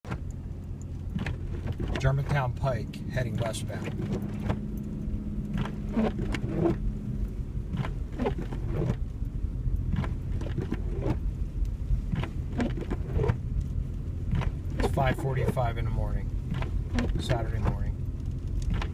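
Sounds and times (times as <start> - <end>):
car driving on snowy road: 0.1 - 18.9.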